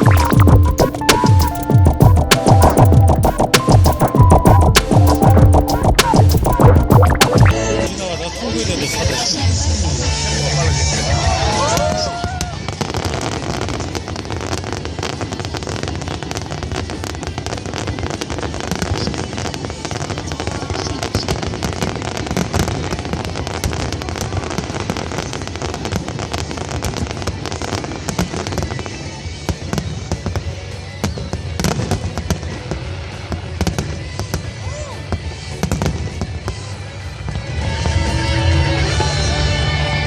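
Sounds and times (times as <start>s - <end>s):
fireworks crackling and banging: 0.0s - 9.4s, 11.8s - 38.2s
music: 0.0s - 40.0s.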